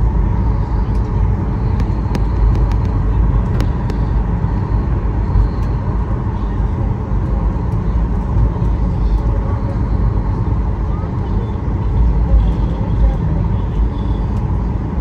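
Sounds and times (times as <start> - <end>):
jet cabin rumble: 0.0 - 15.0.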